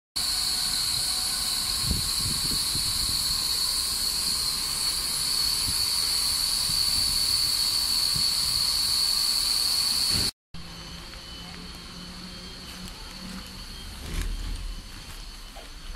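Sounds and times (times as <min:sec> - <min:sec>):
electric train hiss and whine: 0:00.2 - 0:15.9.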